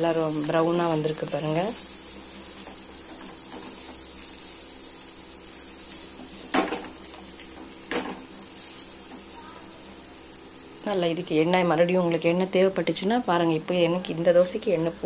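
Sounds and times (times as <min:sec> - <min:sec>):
dosa sizzling in oil: 0:00.0 - 0:12.2.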